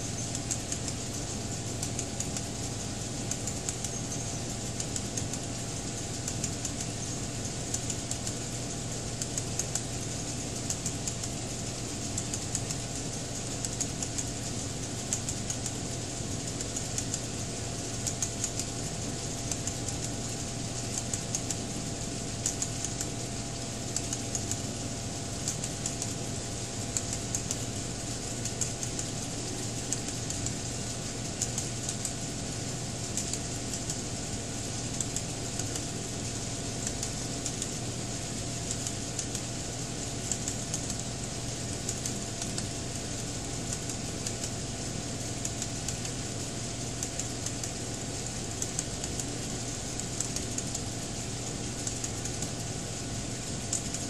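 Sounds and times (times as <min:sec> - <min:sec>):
model train wheels clicking: 0:00.0 - 0:54.0
steady hum: 0:00.0 - 0:54.0.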